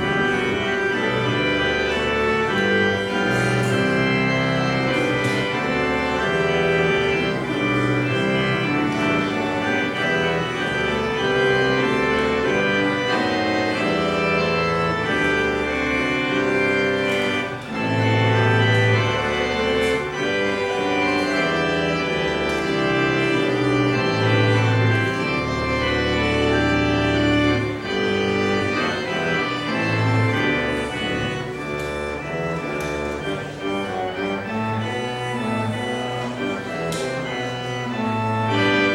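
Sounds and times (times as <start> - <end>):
church organ playing chords: 0.0 - 38.9.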